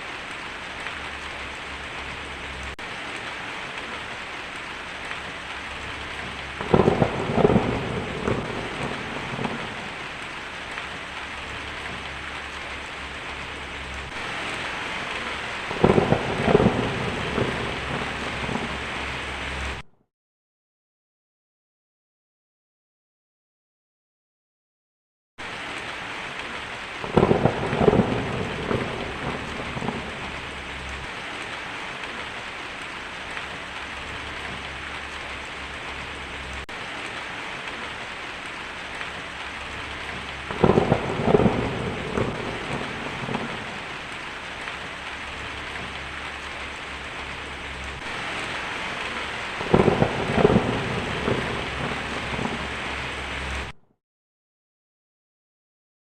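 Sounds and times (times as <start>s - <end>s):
heavy rain on a tin roof: 0.0s - 19.9s, 25.4s - 53.8s
thunder claps rumbling: 0.2s - 19.8s, 27.0s - 53.8s.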